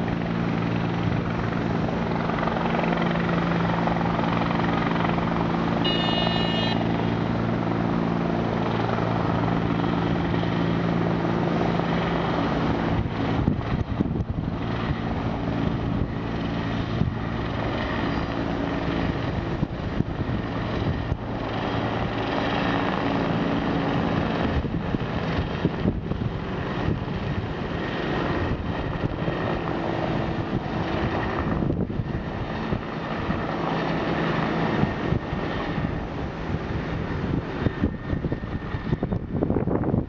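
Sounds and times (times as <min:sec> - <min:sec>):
engine drone: 0:00.0 - 0:40.0.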